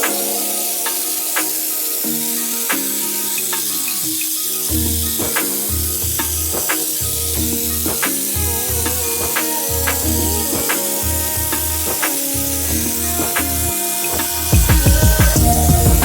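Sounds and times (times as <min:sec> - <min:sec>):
background music with beat: 0:00.0 - 0:16.0
high hiss: 0:00.0 - 0:16.0.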